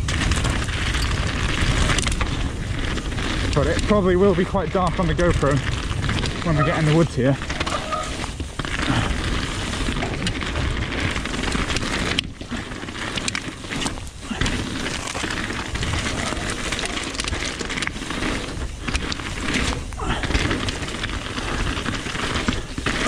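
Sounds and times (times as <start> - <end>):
bike rattling: 0.0 - 23.0
tyres crunching over gravel: 0.0 - 23.0.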